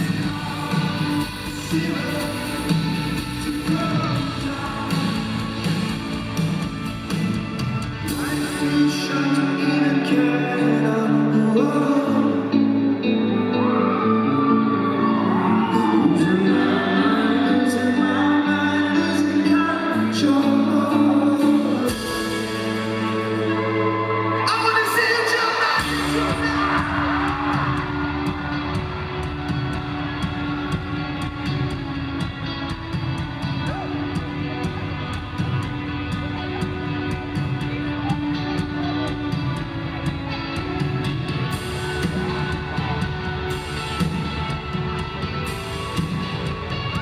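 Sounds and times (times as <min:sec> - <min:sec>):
rock band playing live: 0:00.0 - 0:47.0.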